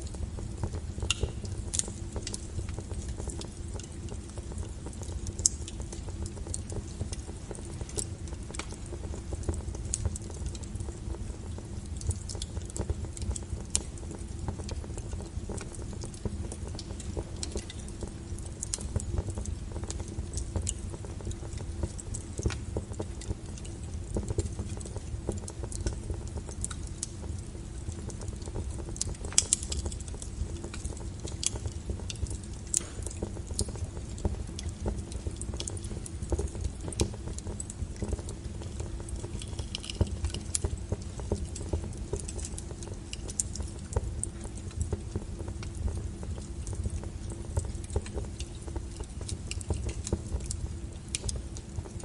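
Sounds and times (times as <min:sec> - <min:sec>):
firewood crackling and popping: 0:00.0 - 0:52.0
low rumble of flames: 0:00.0 - 0:52.0.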